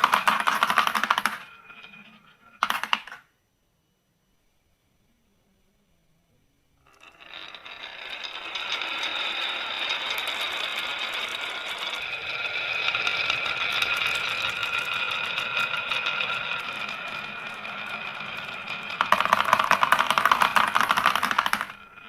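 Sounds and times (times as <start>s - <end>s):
marbles rolling down wooden track: 0.0s - 3.2s, 6.8s - 22.0s.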